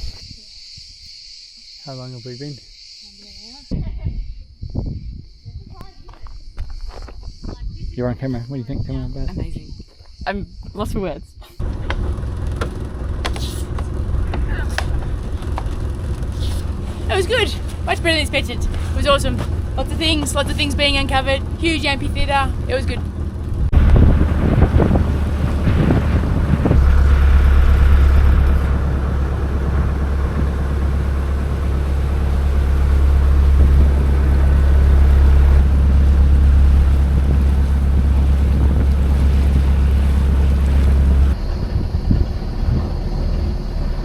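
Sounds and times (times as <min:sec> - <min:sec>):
heavy wind on microphone: 0:00.0 - 0:01.1, 0:03.7 - 0:44.0.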